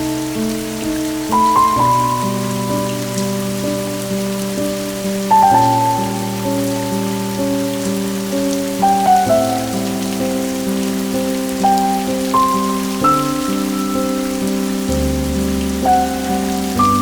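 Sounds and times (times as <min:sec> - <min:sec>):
soft instrumental music: 0:00.0 - 0:17.0
steady rain hiss: 0:00.0 - 0:17.0.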